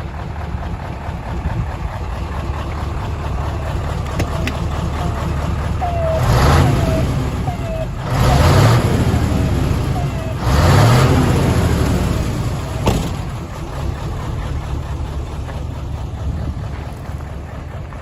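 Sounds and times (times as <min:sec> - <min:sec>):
diesel truck engine revving: 0:00.0 - 0:18.0.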